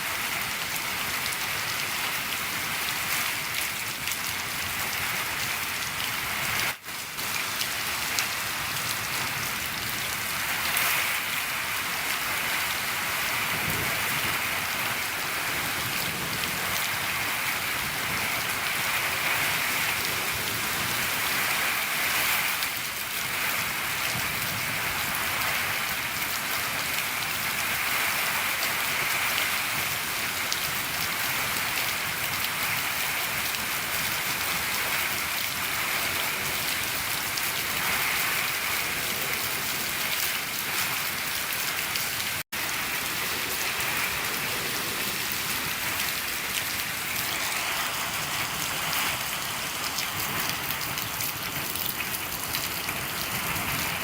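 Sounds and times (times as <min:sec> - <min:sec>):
rain on a shed roof: 0:00.0 - 0:54.0.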